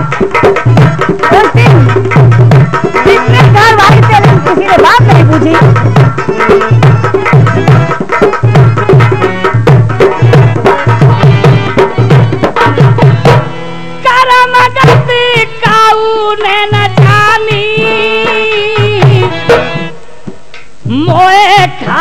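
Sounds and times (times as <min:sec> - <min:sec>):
hand drum: 0:00.0 - 0:22.0.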